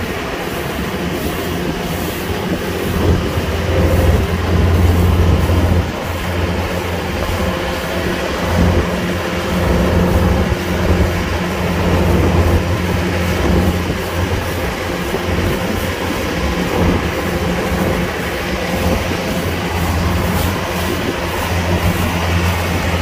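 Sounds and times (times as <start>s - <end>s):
combine harvester engine drone: 0.0s - 23.0s.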